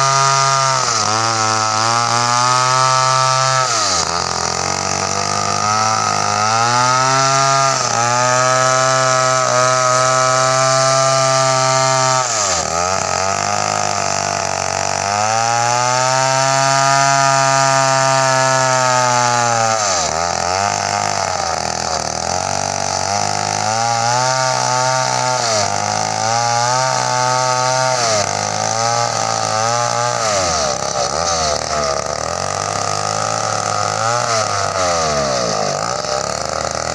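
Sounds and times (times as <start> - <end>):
chainsaw revving and cutting wood: 0.0 - 36.9.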